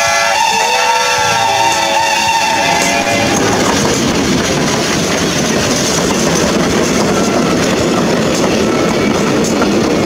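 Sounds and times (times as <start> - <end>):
steam train rolling past: 0.0 - 10.0
wheels clattering on rails: 1.1 - 10.0.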